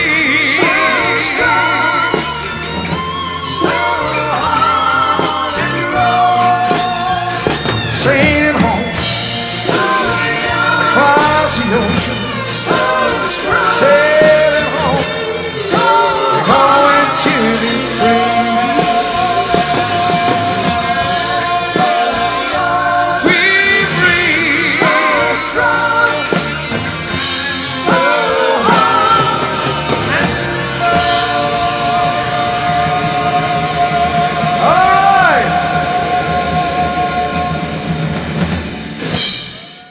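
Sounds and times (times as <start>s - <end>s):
rock song with singer and band: 0.0s - 39.9s.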